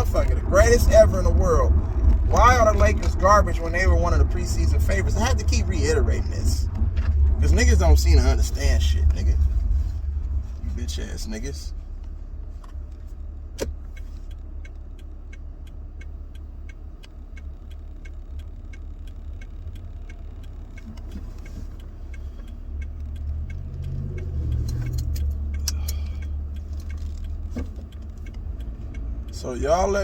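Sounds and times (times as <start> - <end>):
car engine and road rumble: 0.0 - 30.0
regular ticking: 0.0 - 30.0.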